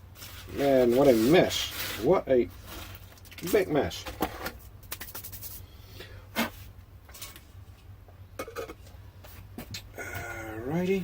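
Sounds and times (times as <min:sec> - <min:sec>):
steady low hum: 0:00.0 - 0:11.0
objects rustling and clicking: 0:00.2 - 0:05.6, 0:06.4 - 0:09.9.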